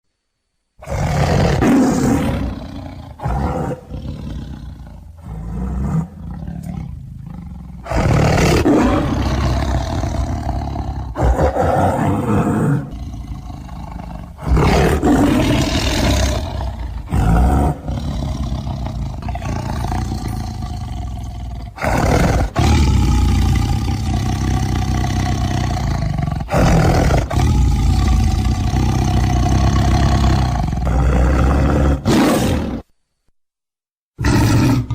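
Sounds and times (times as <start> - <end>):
big cat roaring and growling: 0.8 - 32.9, 34.2 - 34.9.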